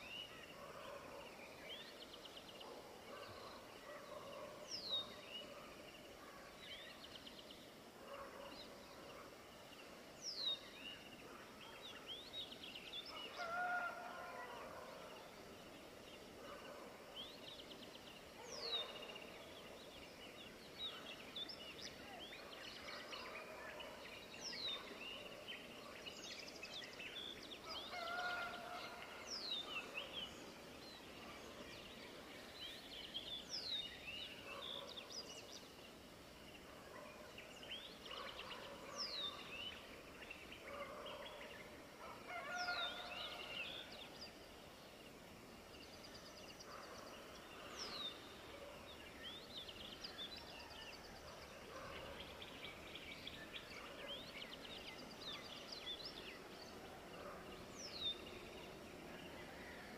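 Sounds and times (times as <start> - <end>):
birds chirping and twittering: 0.0 - 59.9
steady outdoor hiss: 0.0 - 59.9.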